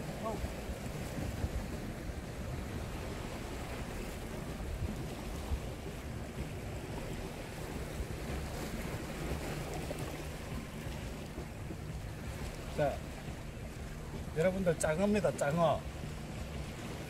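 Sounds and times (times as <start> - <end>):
sea waves against rocks: 0.0 - 17.0
wind rumbling on microphone: 0.0 - 17.0.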